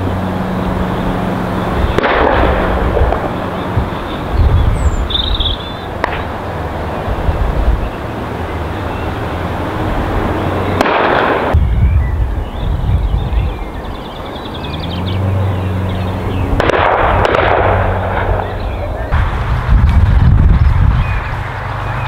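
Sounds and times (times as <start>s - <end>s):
rushing bursts of noise: 0.0s - 13.0s, 14.7s - 22.0s
low engine drone: 0.0s - 22.0s.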